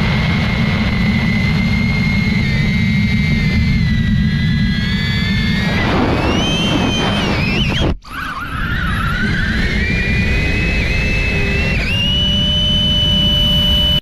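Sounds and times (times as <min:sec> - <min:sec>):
drone propeller motors whining: 0:00.0 - 0:14.0
wind rumble on microphone: 0:00.0 - 0:14.0.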